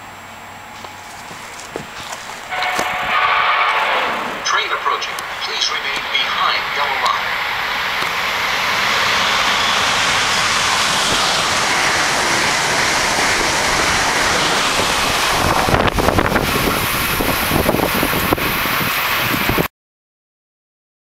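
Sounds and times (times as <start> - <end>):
train passing rush: 0.0 - 19.7
deep rumble: 0.6 - 19.5
wind buffeting microphone: 1.2 - 4.4, 6.0 - 19.7.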